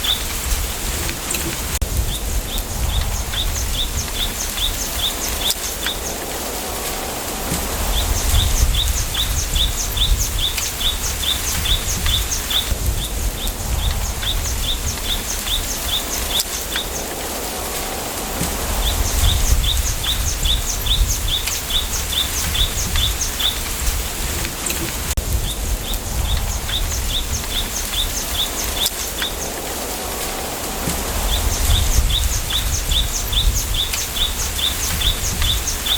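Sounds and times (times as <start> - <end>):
wind in bamboo: 0.0 - 35.9.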